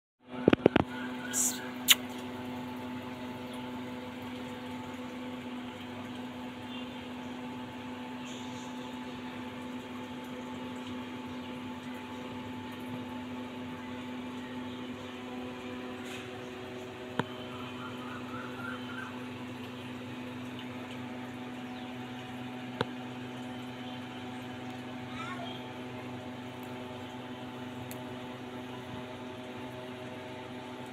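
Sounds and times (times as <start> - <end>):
steady machine hum: 0.2 - 30.9.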